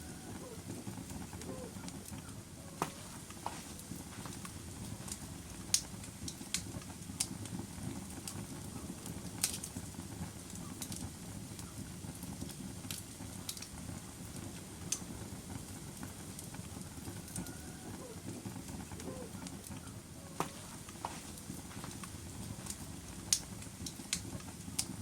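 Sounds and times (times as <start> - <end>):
log fire crackling: 0.0 - 25.0.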